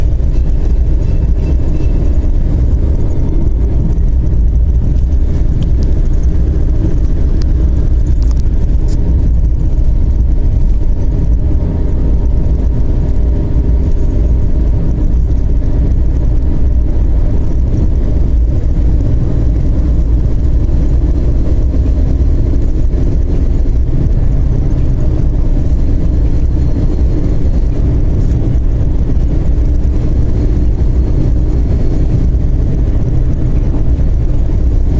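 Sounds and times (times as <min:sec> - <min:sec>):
car engine tyres and wind drone: 0:00.0 - 0:34.9.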